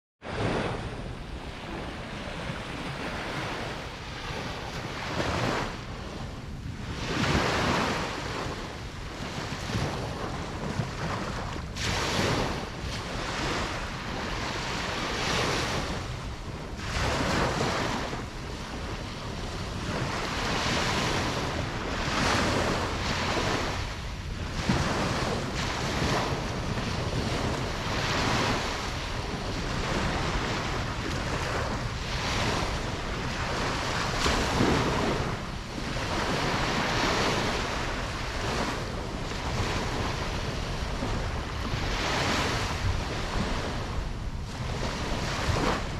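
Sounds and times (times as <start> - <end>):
ocean waves breaking: 0.2 - 45.9
wind: 0.2 - 45.9.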